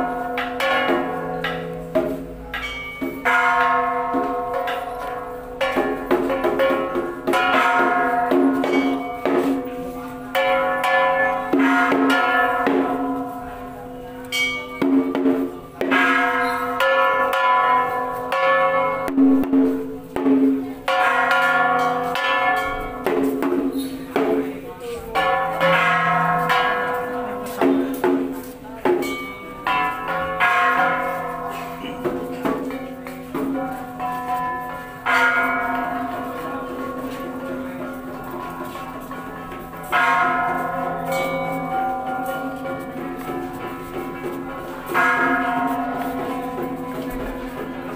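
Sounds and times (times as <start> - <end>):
gong and bells struck: 0.0 - 24.4, 25.2 - 47.9.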